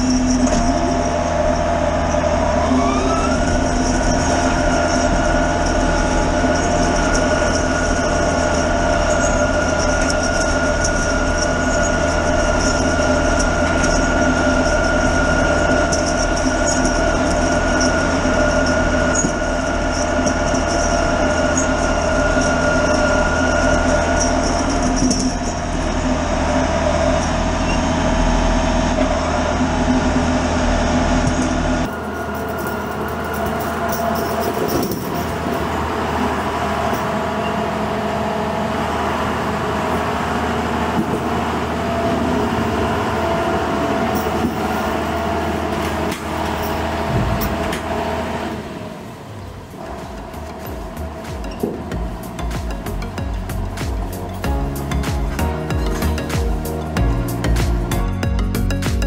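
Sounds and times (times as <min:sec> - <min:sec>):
high even whine: 0:00.0 - 0:59.0
tractor engine and drivetrain: 0:00.0 - 0:59.0.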